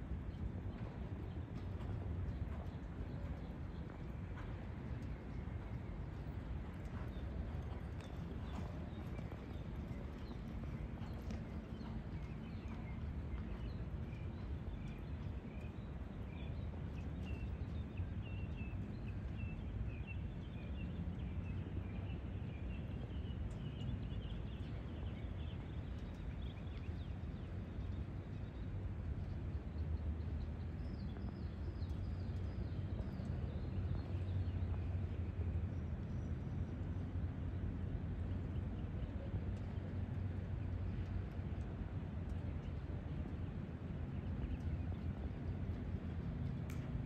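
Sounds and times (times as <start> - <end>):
low outdoor rumble: 0.0 - 47.0.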